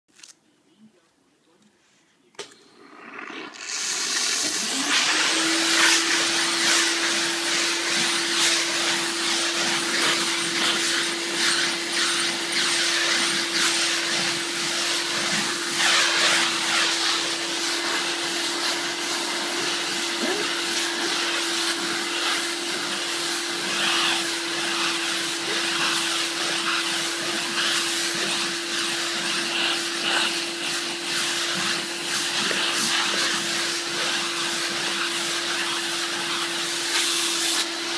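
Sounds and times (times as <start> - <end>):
steam cleaner hissing: 2.8 - 37.9.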